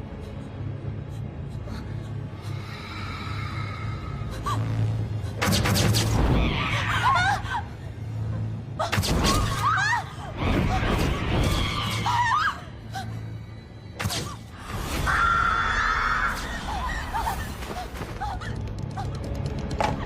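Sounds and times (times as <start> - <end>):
dramatic film music: 0.0 - 20.0
low drone: 0.0 - 20.0.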